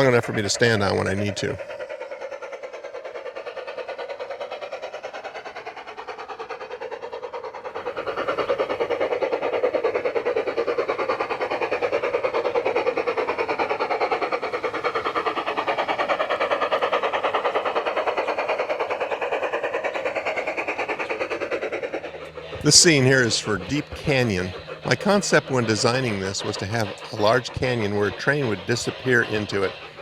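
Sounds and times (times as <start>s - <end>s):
model train clattering on track: 0.0s - 30.0s.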